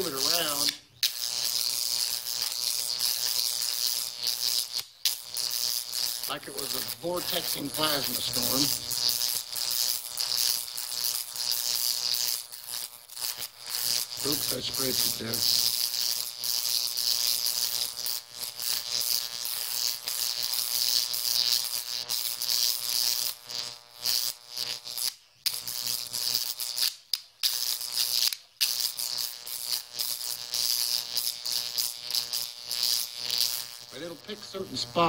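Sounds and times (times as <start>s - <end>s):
electric arc crackling and buzzing: 0.0s - 35.0s.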